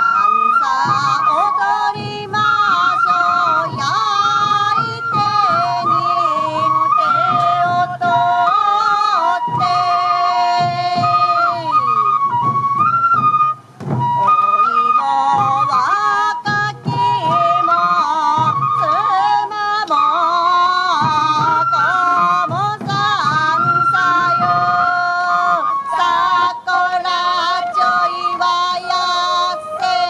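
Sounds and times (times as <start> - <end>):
taiko drums beating: 0.0 - 19.0, 20.9 - 26.5
flute: 0.0 - 30.0
folk singing voice: 0.0 - 30.0.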